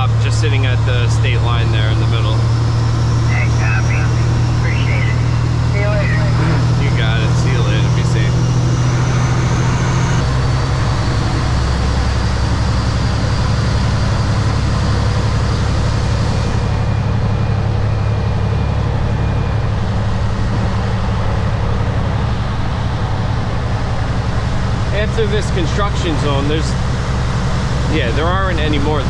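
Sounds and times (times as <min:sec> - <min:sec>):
road noise: 0:00.0 - 0:29.0
truck diesel engine drone: 0:00.0 - 0:29.0.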